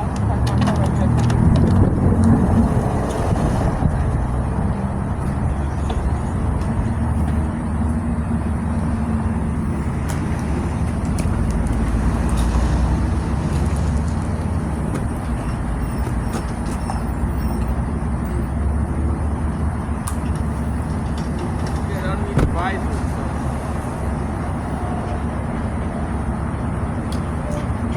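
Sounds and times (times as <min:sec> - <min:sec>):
truck engine running: 0:00.0 - 0:27.9.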